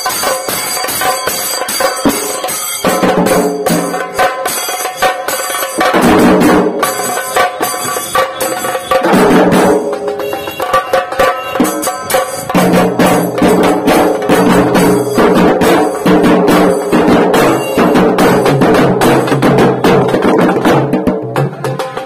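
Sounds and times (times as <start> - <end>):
drum band drumming fast: 0.0 - 22.0.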